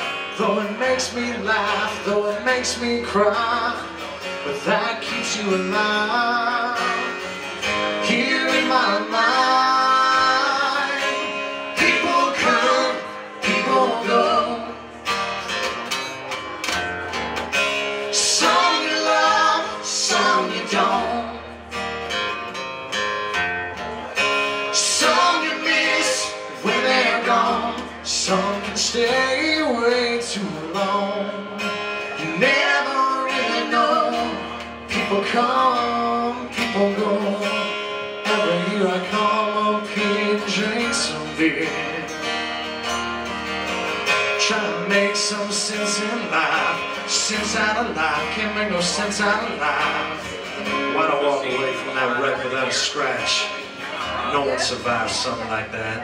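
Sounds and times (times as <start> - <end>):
acoustic guitars strumming: 0.0 - 56.0.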